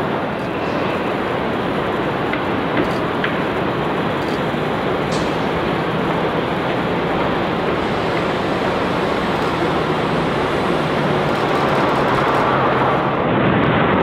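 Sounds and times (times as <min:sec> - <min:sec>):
jet airliner engines landing: 0:00.0 - 0:14.0.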